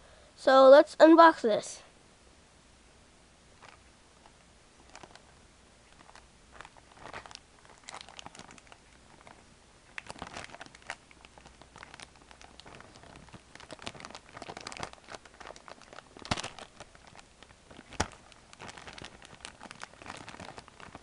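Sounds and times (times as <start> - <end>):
plastic bag crinkling: 3.6 - 21.0.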